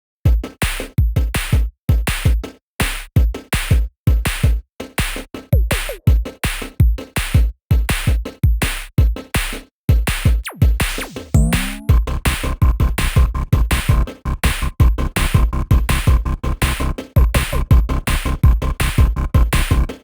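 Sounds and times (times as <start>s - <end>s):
electronic drum-machine beat: 0.3s - 20.0s.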